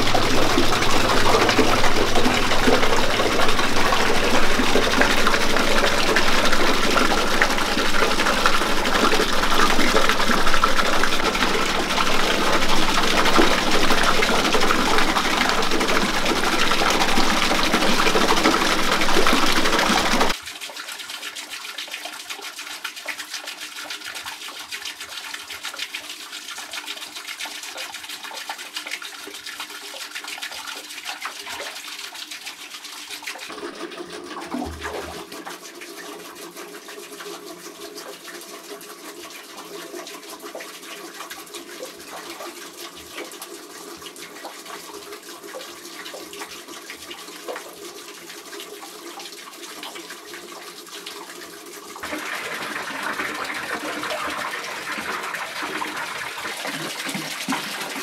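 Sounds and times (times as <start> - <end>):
water splashing over water wheel: 0.0 - 58.0
water trickling: 0.0 - 58.0.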